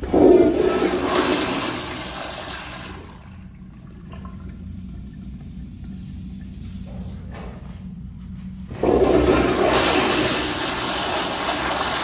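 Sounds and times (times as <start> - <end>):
toilet flushing: 0.0 - 6.7, 8.7 - 12.0.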